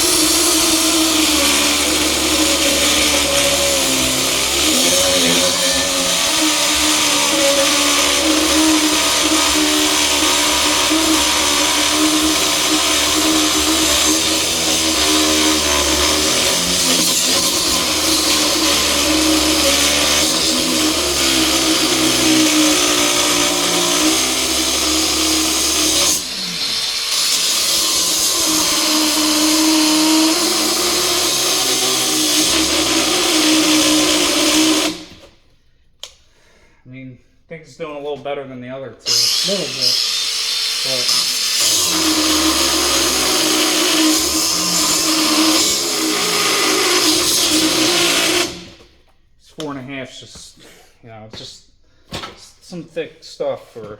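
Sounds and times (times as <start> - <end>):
angle grinder cutting steel: 0.0 - 35.3, 39.0 - 48.8.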